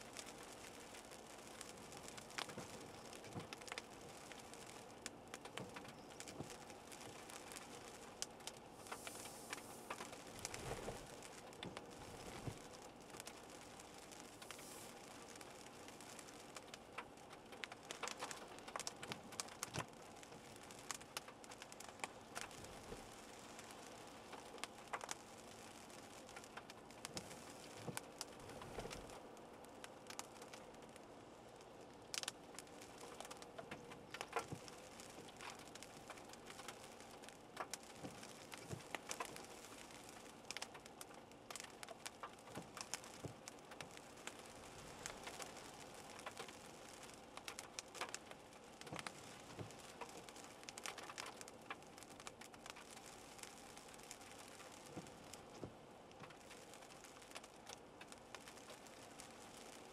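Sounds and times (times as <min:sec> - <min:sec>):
faint steady hum: 0:00.0 - 0:59.9
raindrops tapping on hard surface: 0:00.0 - 0:59.9.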